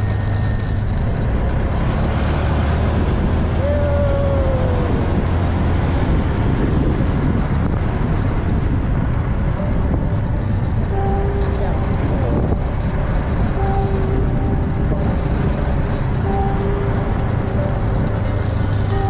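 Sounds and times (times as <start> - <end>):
vehicle engine rumble: 0.0 - 19.0
wind noise on microphone: 0.0 - 19.0.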